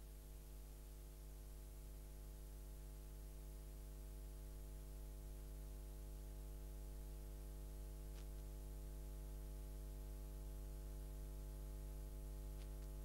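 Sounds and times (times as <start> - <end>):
electrical hum with buzz: 0.0 - 13.0.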